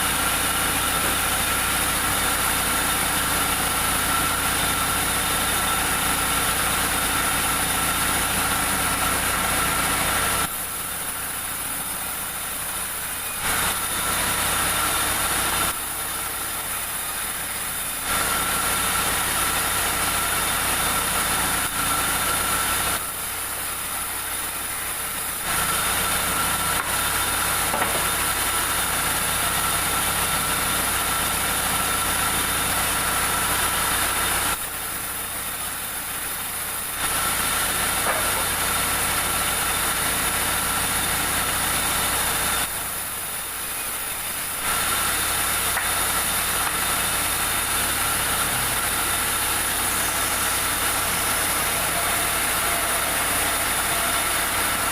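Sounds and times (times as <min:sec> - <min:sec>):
sawmill machinery droning: 0:00.0 - 0:54.9.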